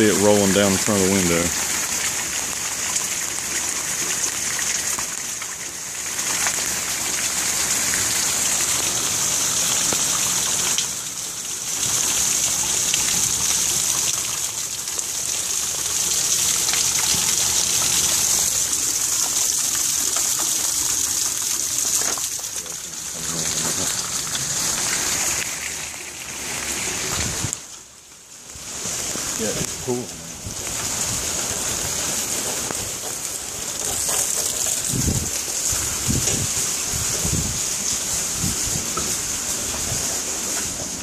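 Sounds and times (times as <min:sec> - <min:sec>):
rainwater splashing onto ground: 0:00.0 - 0:41.0.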